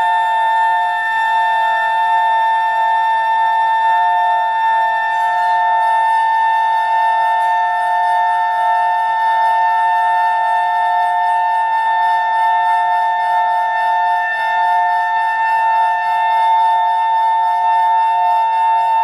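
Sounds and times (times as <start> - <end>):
clarinet drone: 0.0 - 19.0.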